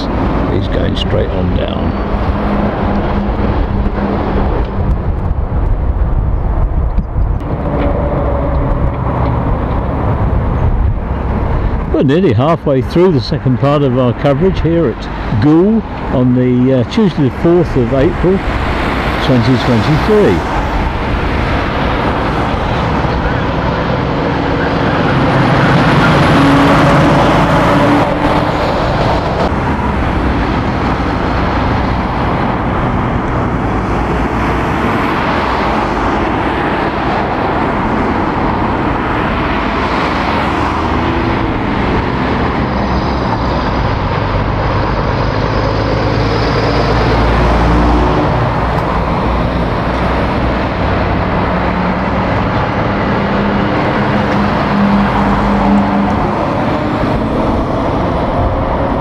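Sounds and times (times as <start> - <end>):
cars and lorries passing: 0.0 - 59.0
lorry diesel engine: 0.0 - 59.0
lorry passing close: 0.0 - 59.0.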